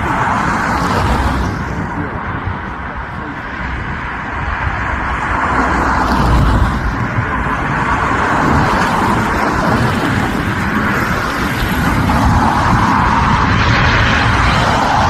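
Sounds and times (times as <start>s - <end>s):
turboprop engines droning: 0.0s - 15.0s
wind buffeting microphone: 0.0s - 15.0s.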